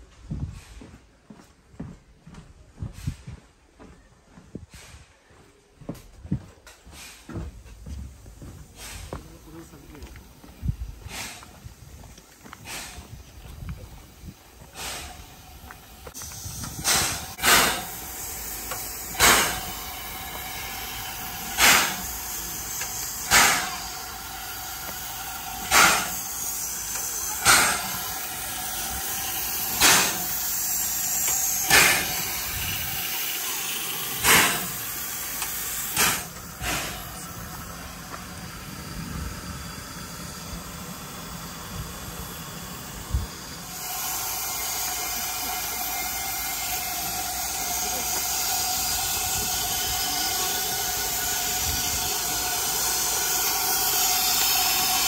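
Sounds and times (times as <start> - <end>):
puffs of steam exhaust: 0.0 - 1.2, 2.9 - 3.6, 4.5 - 55.0
steam hissing: 6.8 - 55.0.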